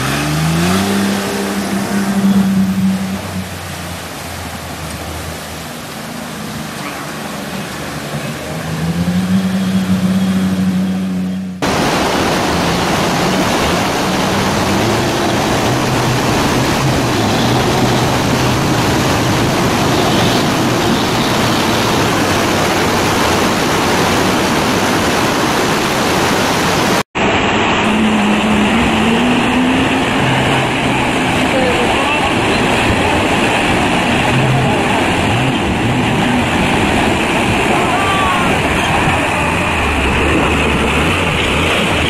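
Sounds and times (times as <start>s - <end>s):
bus engine running: 0.0s - 42.0s
river rapids rushing: 0.0s - 42.0s.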